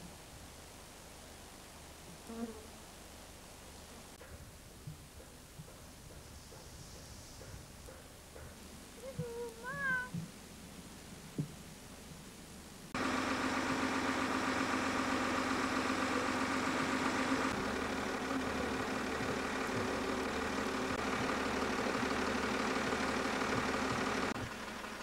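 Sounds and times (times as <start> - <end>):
engine idling: 3.1 - 25.0.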